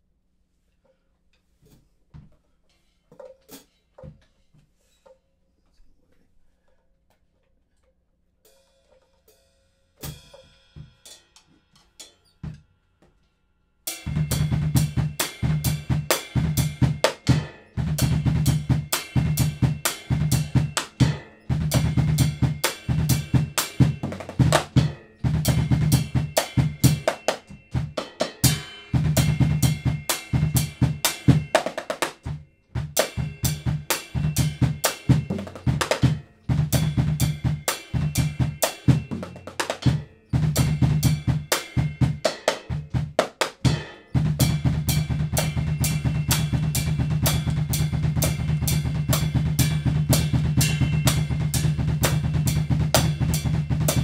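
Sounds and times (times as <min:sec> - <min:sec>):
drum kit groove: 0:08.5 - 0:13.2, 0:13.9 - 0:54.0.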